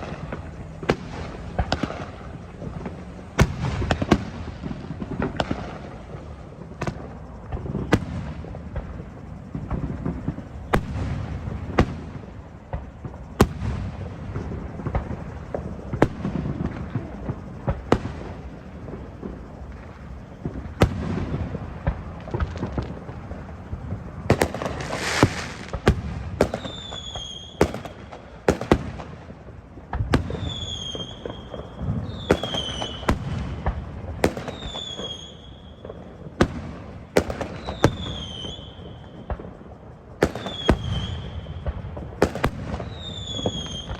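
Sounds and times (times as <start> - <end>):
falling firework whistles: 0.0 - 43.9
fireworks bangs and booms: 0.0 - 43.9.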